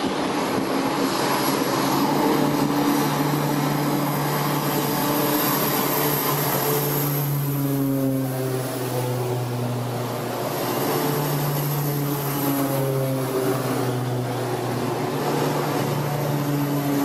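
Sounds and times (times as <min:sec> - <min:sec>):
propeller planes droning: 0:00.0 - 0:17.0.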